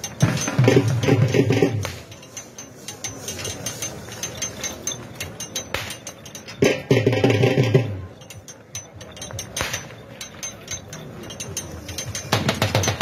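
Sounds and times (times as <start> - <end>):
iron rig rattling on dirt: 0.0 - 13.0.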